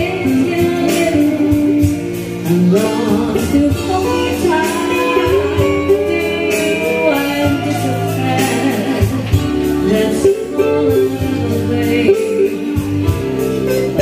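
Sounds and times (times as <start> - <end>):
electric guitar: 0.0 - 14.0
electronic keyboard: 0.0 - 14.0
woman singing into a microphone: 0.0 - 14.0.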